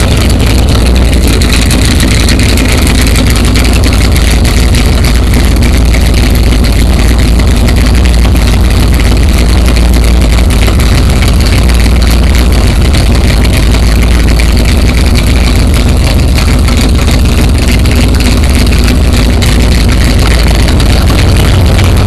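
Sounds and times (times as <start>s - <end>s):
loud car engine idling: 0.0s - 22.0s.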